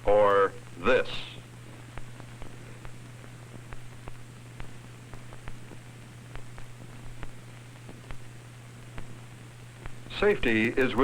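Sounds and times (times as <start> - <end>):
faint clicks and pops: 1.4 - 10.8.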